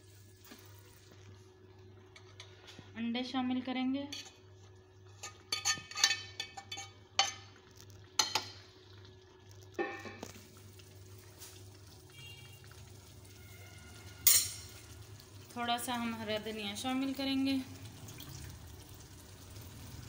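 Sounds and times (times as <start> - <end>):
faint sizzle from pan: 0.0 - 20.0.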